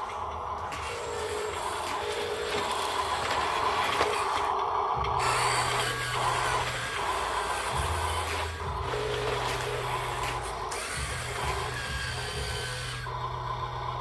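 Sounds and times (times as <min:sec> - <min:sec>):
machinery mechanical clatter: 0:00.0 - 0:14.0.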